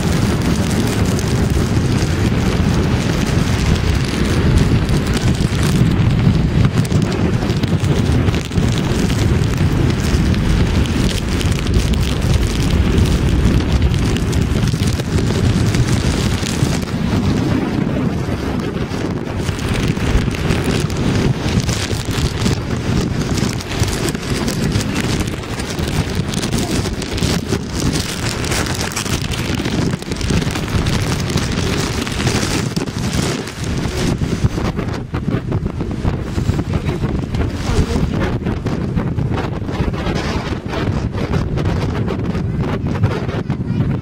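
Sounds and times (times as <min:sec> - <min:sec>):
rain hitting camera: 0:00.0 - 0:44.0
wind buffeting microphone: 0:00.0 - 0:44.0.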